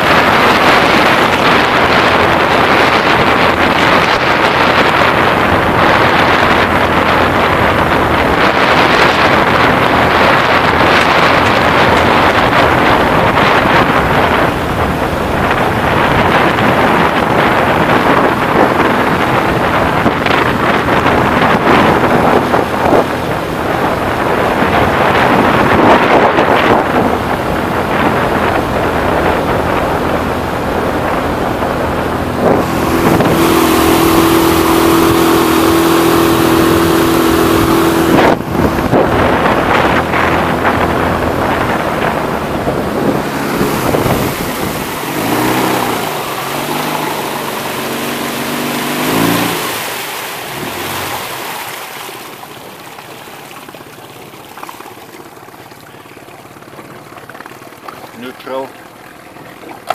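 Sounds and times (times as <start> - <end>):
outboard motor running: 0.0 - 59.9
wind and water rushing: 0.0 - 59.9.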